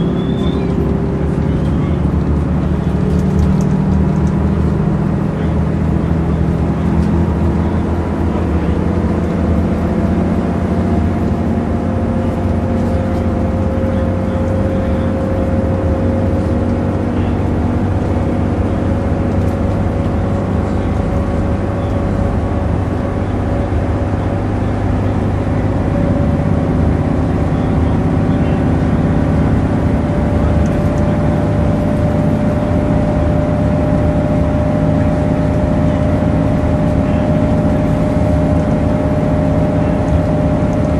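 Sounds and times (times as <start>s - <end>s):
bus diesel engine running: 0.0s - 40.9s
road and body noise: 0.0s - 40.9s.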